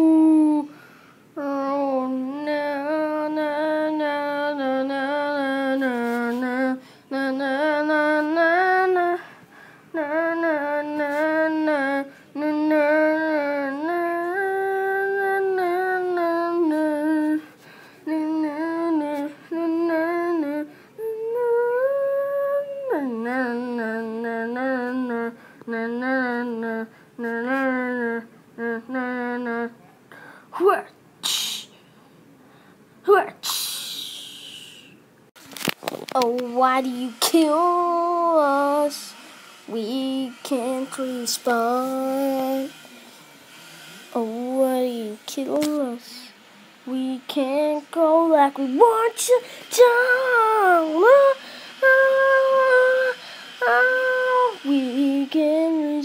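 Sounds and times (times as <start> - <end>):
person humming a tune: 0.0 - 0.8, 1.4 - 9.2, 9.9 - 29.8, 33.4 - 35.0, 36.2 - 43.0, 44.0 - 56.0.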